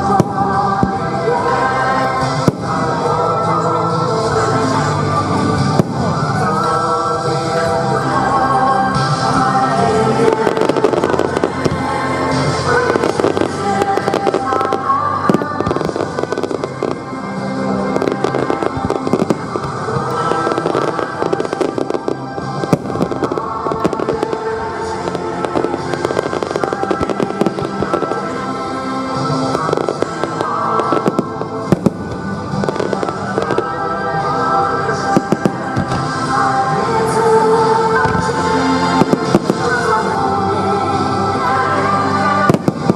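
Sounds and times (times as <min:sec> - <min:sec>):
fireworks bangs and crackling: 0:00.0 - 0:42.9
music playing: 0:00.0 - 0:42.9.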